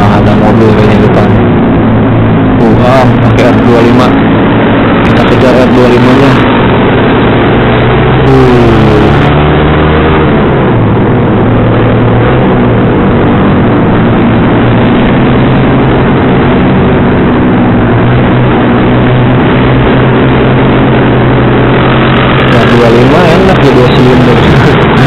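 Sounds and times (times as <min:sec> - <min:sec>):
motorcycle engine while riding: 0:00.0 - 0:25.0.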